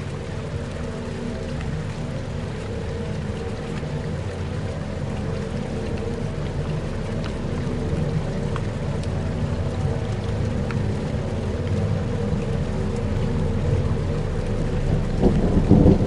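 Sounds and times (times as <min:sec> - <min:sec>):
low rumbling drone: 0:00.0 - 0:16.0
steady rain: 0:00.0 - 0:16.0.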